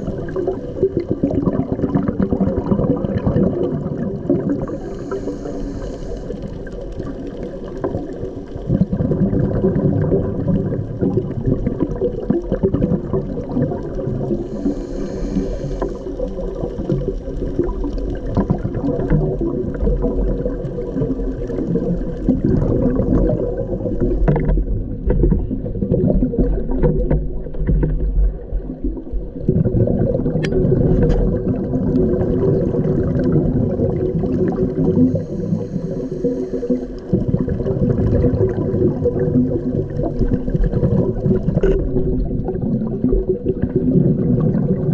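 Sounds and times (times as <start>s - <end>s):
bubbles gurgling underwater: 0.0s - 44.9s
steady underwater hum: 0.0s - 44.9s.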